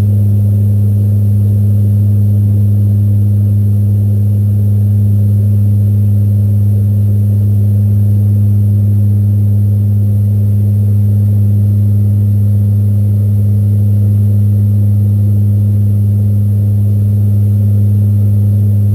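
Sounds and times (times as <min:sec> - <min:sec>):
aircraft engine drone in cabin: 0:00.0 - 0:18.9.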